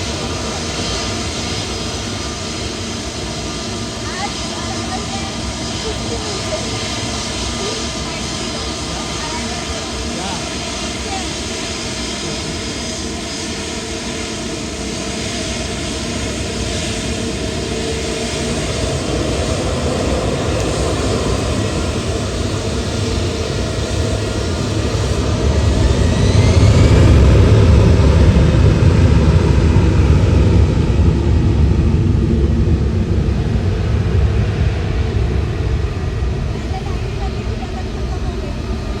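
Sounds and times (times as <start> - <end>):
gliding engine whine: 0.0 - 39.0
jet airliner engines roaring: 0.0 - 39.0.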